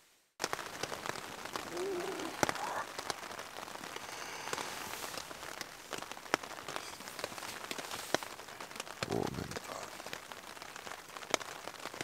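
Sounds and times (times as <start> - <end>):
raindrops tapping on tent fabric: 0.0 - 12.0
steady rain hiss: 0.0 - 12.0.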